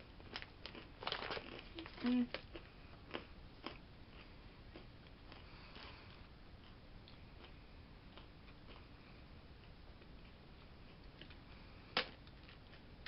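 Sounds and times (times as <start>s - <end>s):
faint chewing: 0.2s - 12.9s.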